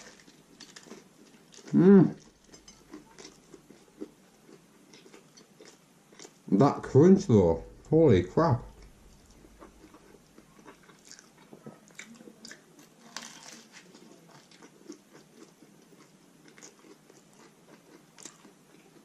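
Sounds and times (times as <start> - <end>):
person chewing and crunching: 0.0 - 6.8, 8.7 - 19.0.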